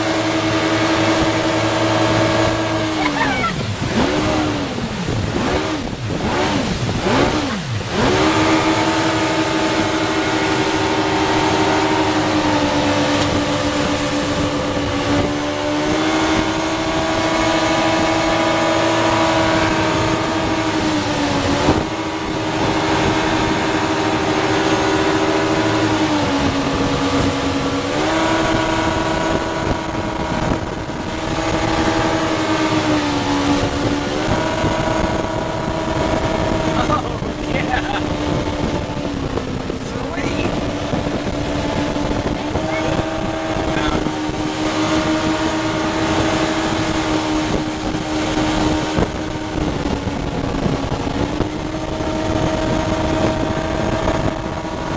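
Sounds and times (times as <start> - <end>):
motorboat engine running: 0.0 - 54.9
rushing water: 0.0 - 54.9
rushing wind: 0.0 - 54.9.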